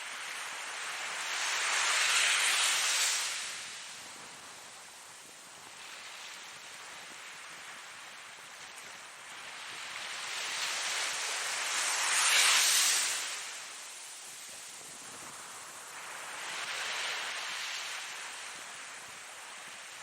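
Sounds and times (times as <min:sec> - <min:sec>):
ocean surf wash: 0:00.0 - 0:20.0.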